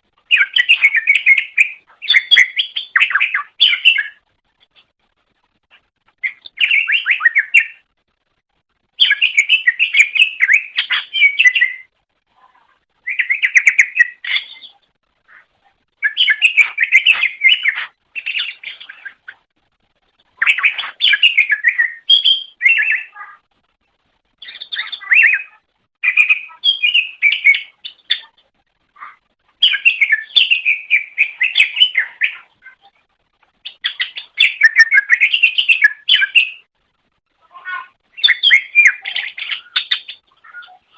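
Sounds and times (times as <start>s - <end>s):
bird warbling and chattering: 0.2s - 4.2s, 5.7s - 7.8s, 9.0s - 19.5s, 20.3s - 23.4s, 24.4s - 36.7s, 37.4s - 40.9s.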